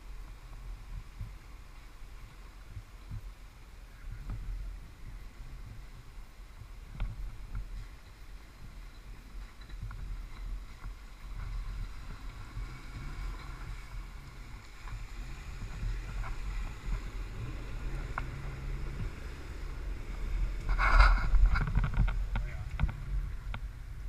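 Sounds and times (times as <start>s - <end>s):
off-road vehicle engine running: 0.0s - 24.0s
water sloshing around wheels: 0.1s - 24.0s.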